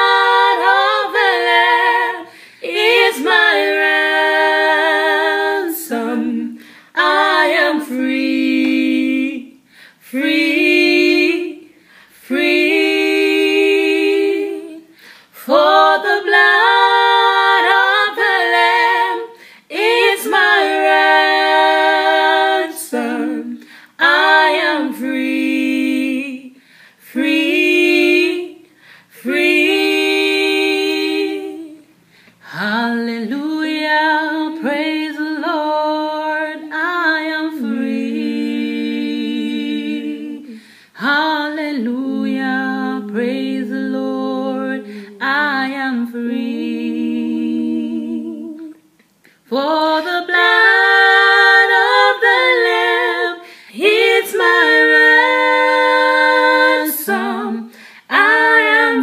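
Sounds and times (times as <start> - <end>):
women singing unaccompanied: 0.0 - 59.0.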